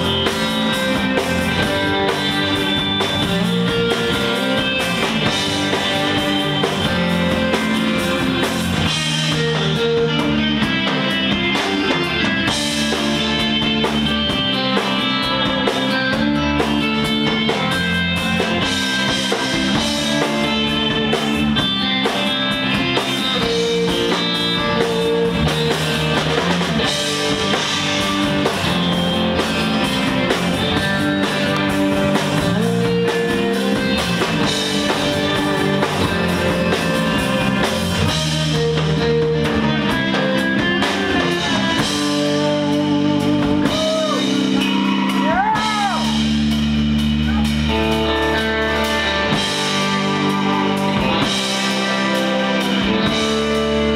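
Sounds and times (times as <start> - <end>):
bass guitar: 0.0 - 53.9
drum kit: 0.0 - 53.9
electric lead guitar: 0.0 - 53.9.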